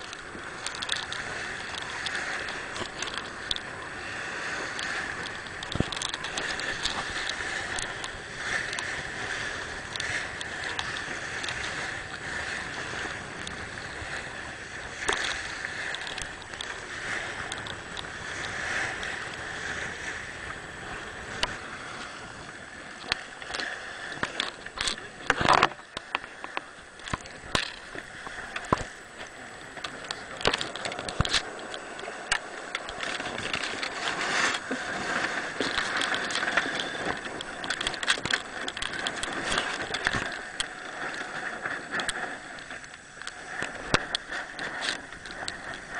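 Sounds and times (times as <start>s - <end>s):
wind noise: 0.0s - 45.9s.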